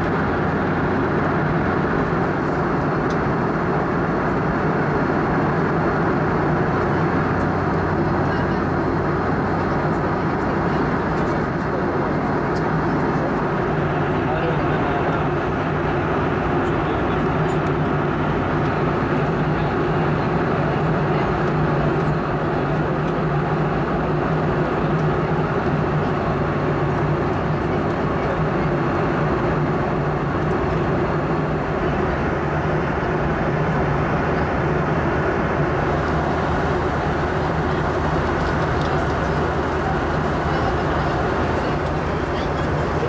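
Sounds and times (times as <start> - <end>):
airliner cabin noise: 0.0 - 43.0
jet engine low hum: 0.0 - 43.0.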